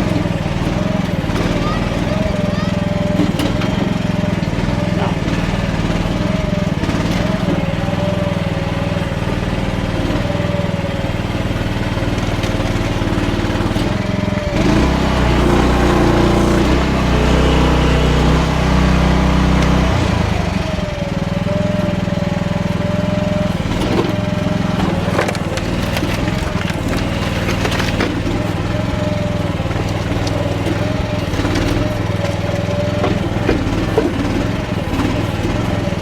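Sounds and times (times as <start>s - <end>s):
mini excavator engine running: 0.0s - 36.0s.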